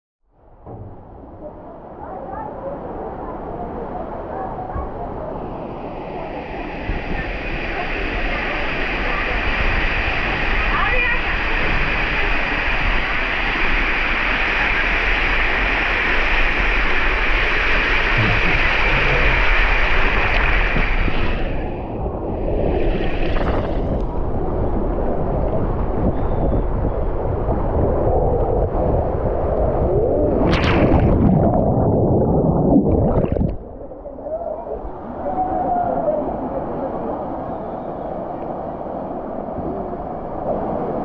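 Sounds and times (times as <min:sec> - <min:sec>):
water rushing down a waterslide: 0:01.1 - 0:41.0.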